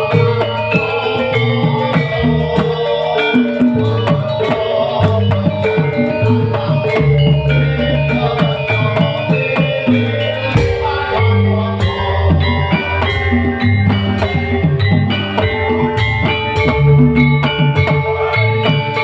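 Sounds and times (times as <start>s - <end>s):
bass line: 0.0s - 19.0s
drum beat: 0.0s - 19.0s.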